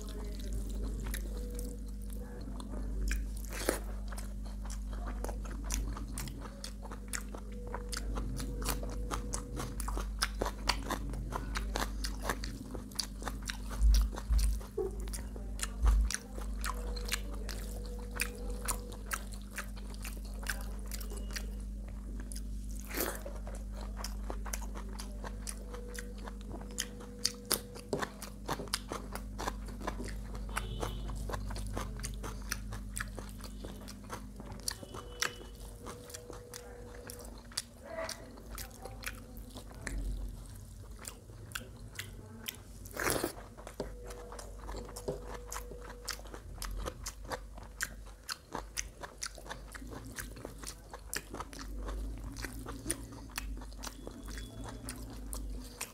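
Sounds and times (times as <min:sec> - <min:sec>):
low steady hum: 0:00.0 - 0:55.9
person chewing food: 0:00.0 - 0:55.9.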